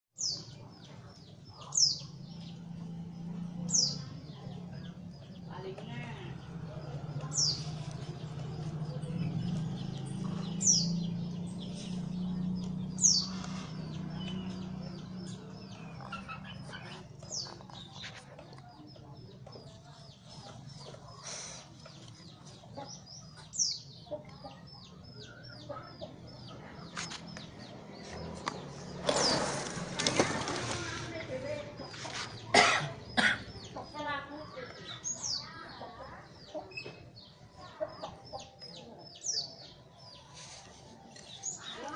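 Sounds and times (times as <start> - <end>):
birds chirping: 0.1 - 41.9.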